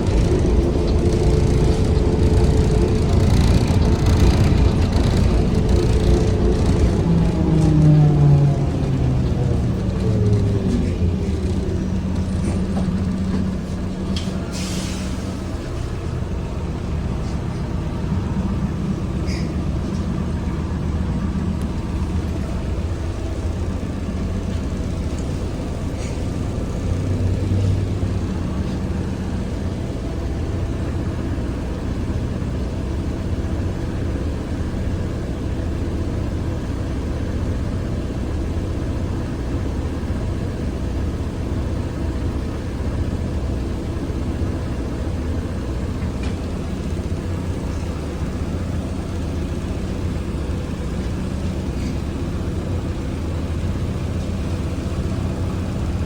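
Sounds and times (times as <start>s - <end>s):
trolleybus cabin hum and rumble: 0.0s - 56.0s.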